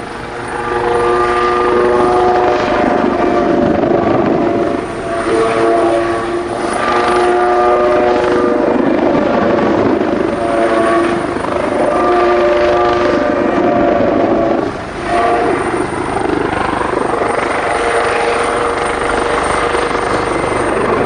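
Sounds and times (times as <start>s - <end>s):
helicopter flying past: 1.6s - 21.0s.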